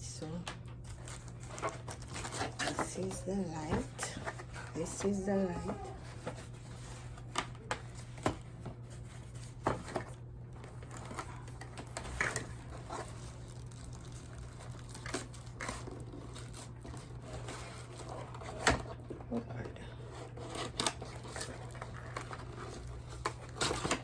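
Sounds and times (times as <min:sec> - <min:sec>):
plastic packaging crinkling: 0:00.7 - 0:19.1, 0:20.1 - 0:24.0.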